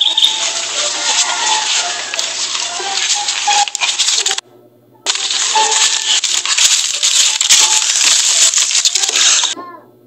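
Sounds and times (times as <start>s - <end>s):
rustling leaves and dry grass: 0.0s - 4.4s, 5.1s - 9.6s.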